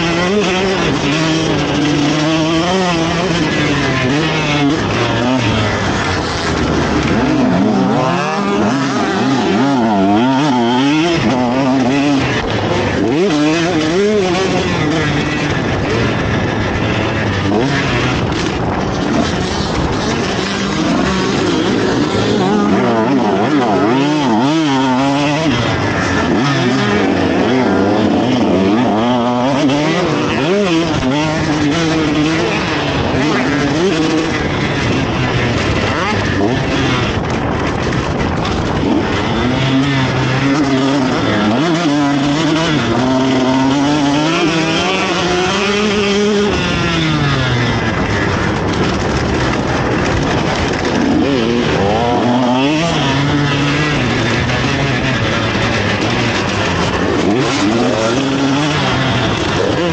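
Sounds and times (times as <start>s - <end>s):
motocross engine revving: 0.0s - 59.9s
rough rushing noise: 0.0s - 59.9s.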